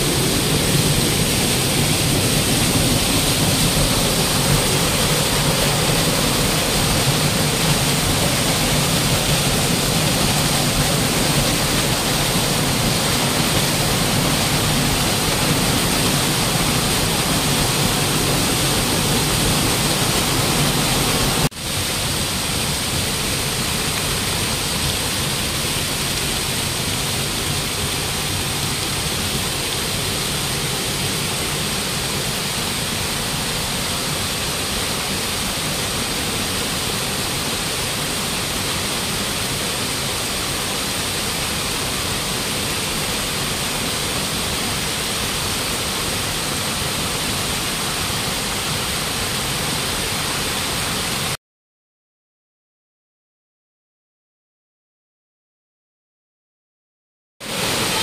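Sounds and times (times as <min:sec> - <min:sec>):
waterfall rushing: 0:00.0 - 0:51.4, 0:57.4 - 0:58.0.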